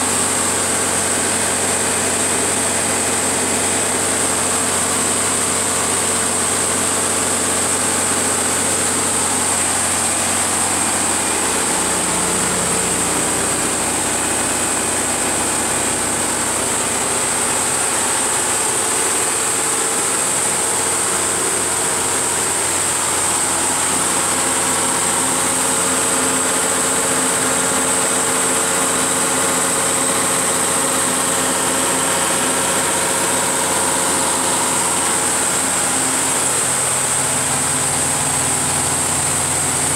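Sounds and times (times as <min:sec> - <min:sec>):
diesel generator engine running: 0:00.0 - 0:39.9
steady high whine: 0:00.0 - 0:39.9.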